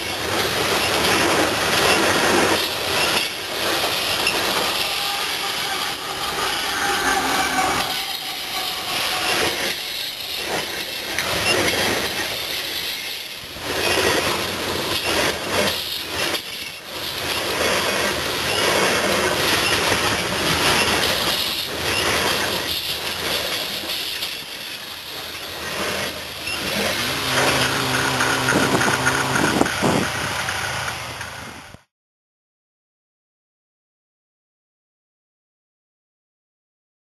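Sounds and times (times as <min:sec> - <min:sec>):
train wheels rumbling on track: 0:00.0 - 0:31.9.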